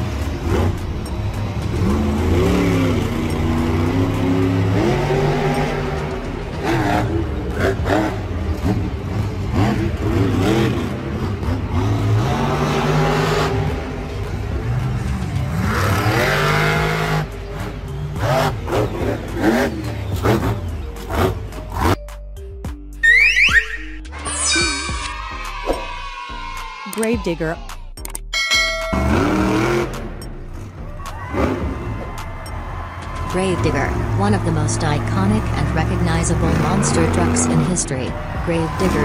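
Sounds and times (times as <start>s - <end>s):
monster truck engine revving: 0.0s - 22.0s, 28.9s - 39.0s.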